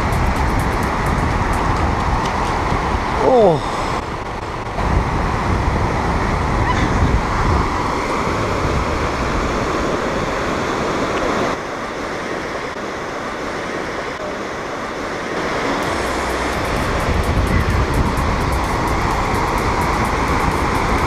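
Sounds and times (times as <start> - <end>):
waves breaking on sandy beach: 0.0 - 21.0.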